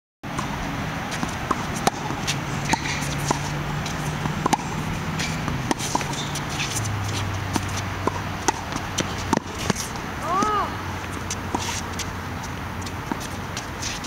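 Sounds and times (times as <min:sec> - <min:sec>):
steady low hum: 0:00.3 - 0:14.0
tennis ball bouncing on court: 0:00.3 - 0:14.0
tennis ball struck by racquets: 0:00.3 - 0:14.0.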